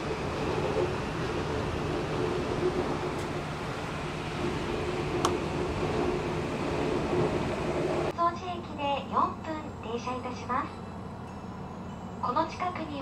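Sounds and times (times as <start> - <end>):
railcar engine hum and rumble: 0.0 - 13.0.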